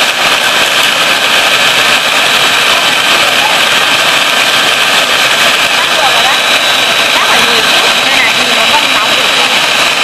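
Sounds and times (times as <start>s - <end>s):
electric mixer whisking: 0.0s - 10.0s.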